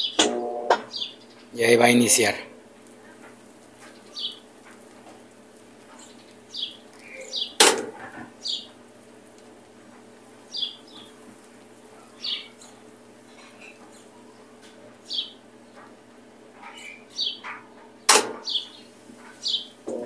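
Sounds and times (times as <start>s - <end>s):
steady low hum: 0.0s - 16.6s, 18.3s - 20.0s
small birds chirping: 0.0s - 20.0s.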